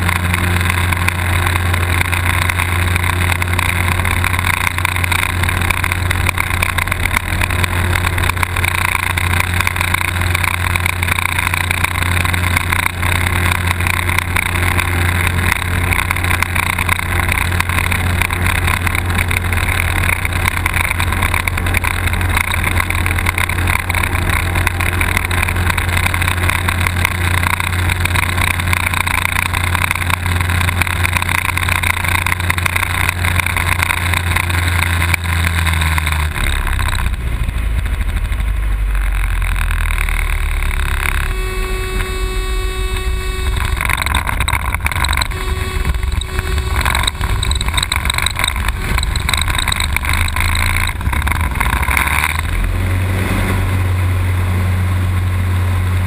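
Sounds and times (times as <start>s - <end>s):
wind noise in cockpit: 0.0s - 39.0s, 40.7s - 56.0s
propeller engine drone: 0.0s - 56.0s
steady tone: 0.0s - 56.0s.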